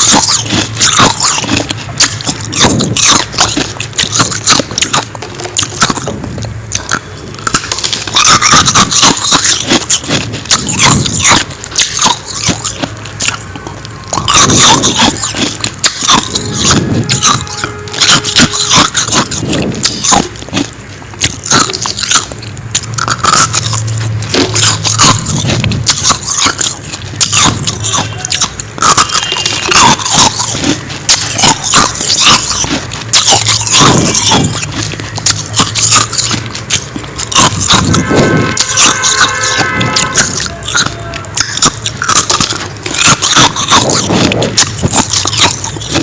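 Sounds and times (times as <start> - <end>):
chewing: 0.0 - 46.0
crunching into frosty ice: 0.0 - 46.0.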